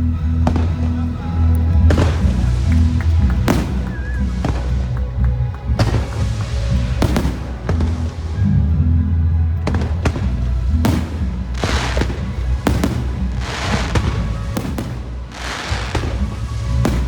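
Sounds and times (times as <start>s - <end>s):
fireworks bangs: 0.0s - 17.0s
hissing crackle of fireworks: 0.0s - 17.0s
music soundtrack: 0.0s - 17.0s.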